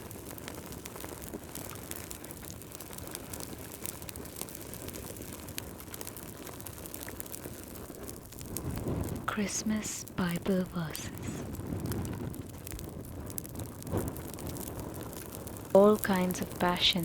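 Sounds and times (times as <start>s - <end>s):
fire crackling and popping: 0.0s - 17.0s
fire flames rushing: 0.0s - 17.0s.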